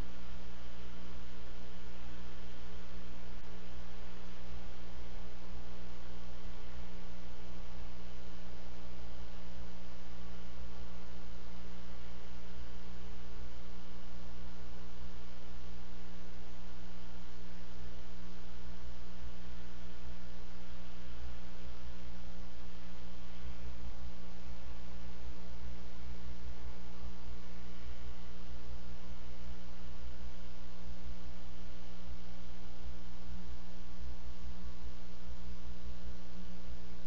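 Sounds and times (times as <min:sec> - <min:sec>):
constant hiss: 0:00.0 - 0:37.0
steady electrical hum: 0:00.0 - 0:37.0.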